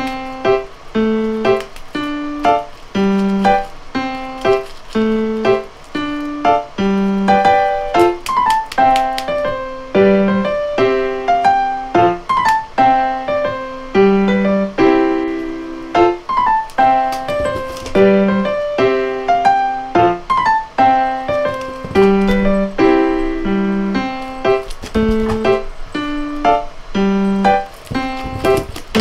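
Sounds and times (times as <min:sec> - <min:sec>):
bouncy piano music: 0:00.0 - 0:29.0.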